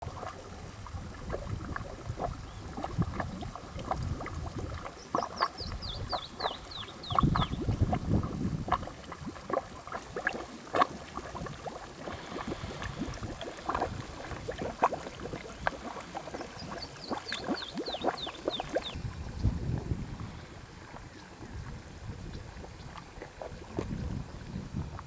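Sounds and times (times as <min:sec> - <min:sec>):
wind rumble on microphone: 0:00.0 - 0:10.4, 0:11.2 - 0:25.0
water gurgling and splashing: 0:00.0 - 0:25.0.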